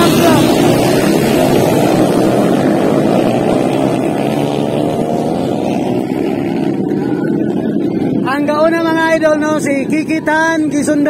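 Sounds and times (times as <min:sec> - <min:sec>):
motorcycles racing: 0:00.0 - 0:11.0.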